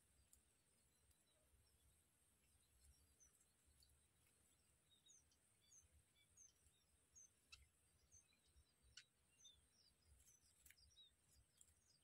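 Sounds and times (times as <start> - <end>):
faint high bird chirps: 0.1 - 12.0.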